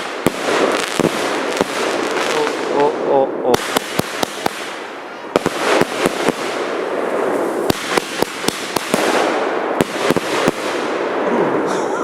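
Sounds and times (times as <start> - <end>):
fireworks crackling and popping: 0.0 - 11.3.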